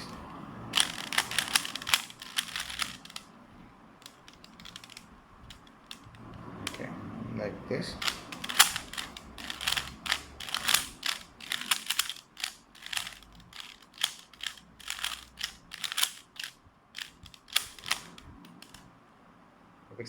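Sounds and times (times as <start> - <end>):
puzzle cube clicking: 0.0 - 3.3, 4.0 - 6.8, 8.0 - 18.8.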